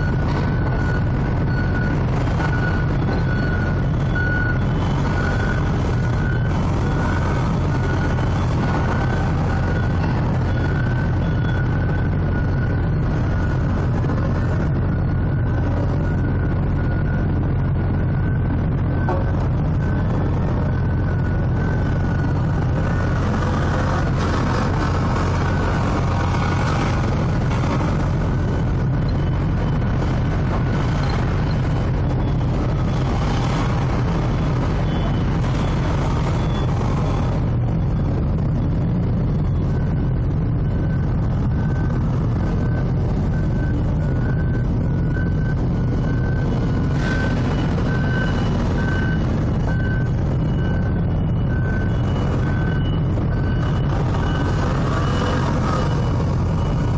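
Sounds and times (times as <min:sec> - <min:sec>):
diesel machinery rumbling: 0:00.0 - 0:56.9.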